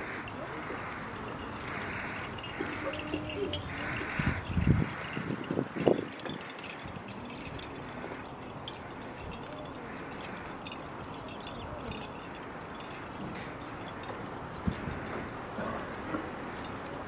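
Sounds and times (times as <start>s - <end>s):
faint indistinct voices: 0.0s - 17.0s
outdoor background noise: 0.0s - 17.0s.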